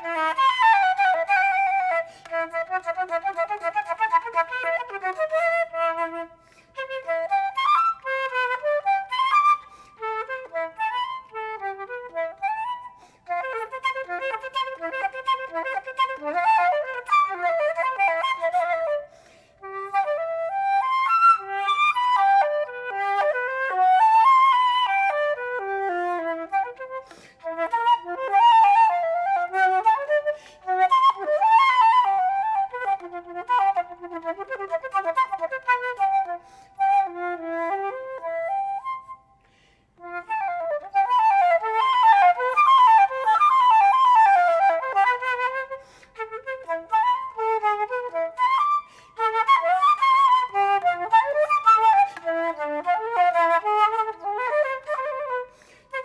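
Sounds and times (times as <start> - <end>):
flute playing fast melody: 0.0 - 39.4, 40.0 - 56.0.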